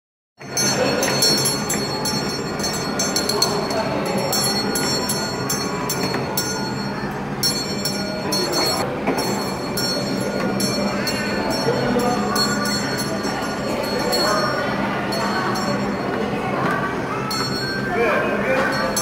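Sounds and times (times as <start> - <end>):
kiddie train hum: 0.4 - 19.0
wheels rolling on rails: 0.4 - 19.0.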